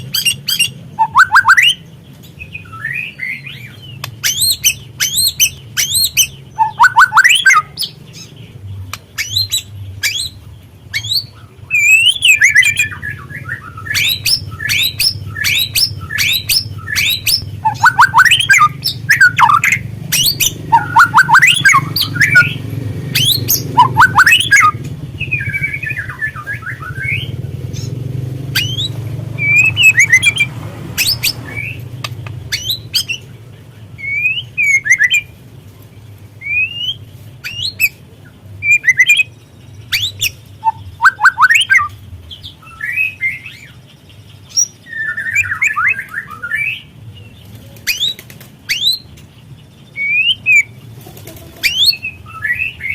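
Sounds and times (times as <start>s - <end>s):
bird chattering and calling: 0.0s - 35.4s, 36.4s - 46.9s, 47.7s - 52.9s.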